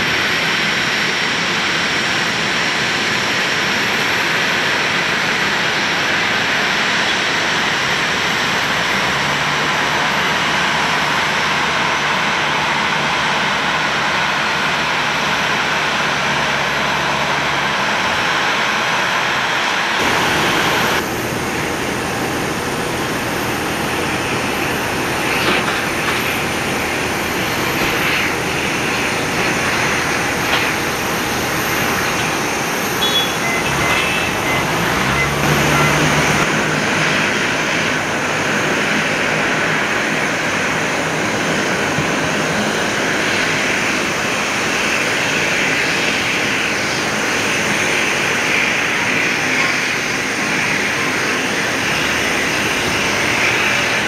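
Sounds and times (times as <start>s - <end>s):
jet engines idling: 0.0s - 54.0s
turboprop plane taxiing: 0.0s - 54.0s.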